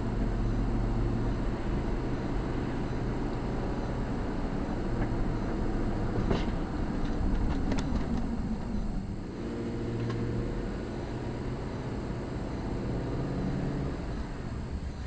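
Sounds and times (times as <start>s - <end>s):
car engine running: 0.0s - 15.0s
tyre and road noise: 0.0s - 15.0s.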